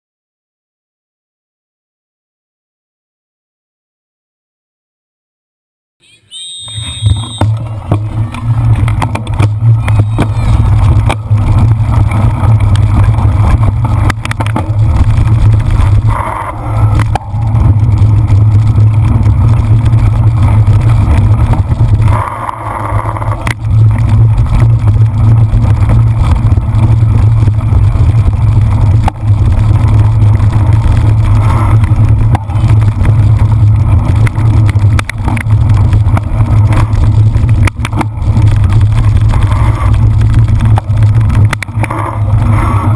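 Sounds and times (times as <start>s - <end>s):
wind rumble on microphone: 6.9s - 42.9s
bike knocks and rattles: 7.1s - 42.9s.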